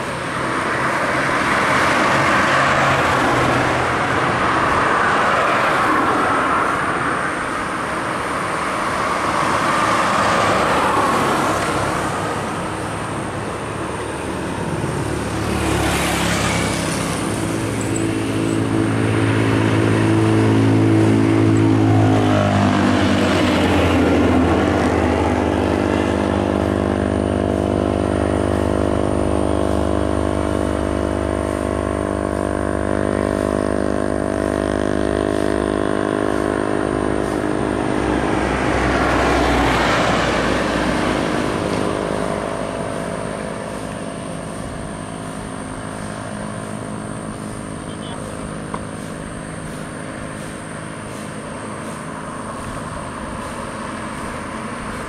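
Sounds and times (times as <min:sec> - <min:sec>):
bus diesel engine droning: 0:00.0 - 0:55.0
diesel truck passing: 0:00.0 - 0:55.0
traffic swishing by: 0:00.0 - 0:55.0.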